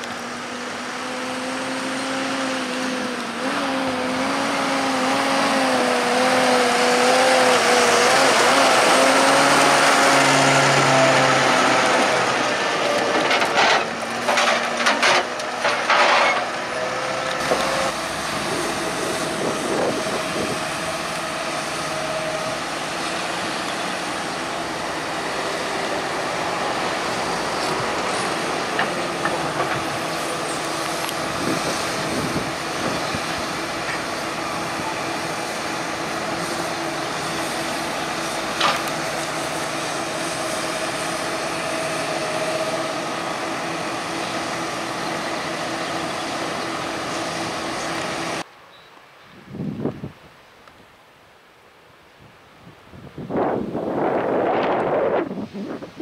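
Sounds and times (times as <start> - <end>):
diesel engines running: 0.0 - 48.5.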